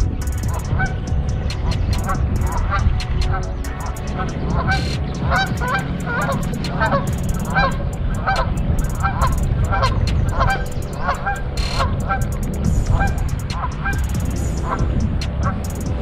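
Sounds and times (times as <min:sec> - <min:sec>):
waterfowl honking: 0:00.0 - 0:16.0
wind rumble on microphone: 0:00.0 - 0:16.0.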